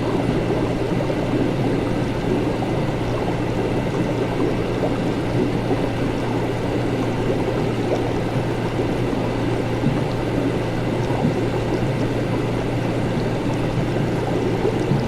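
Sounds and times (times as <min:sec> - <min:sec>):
liquid bubbling and gurgling: 0:00.0 - 0:15.0
low hum of equipment: 0:00.0 - 0:15.0.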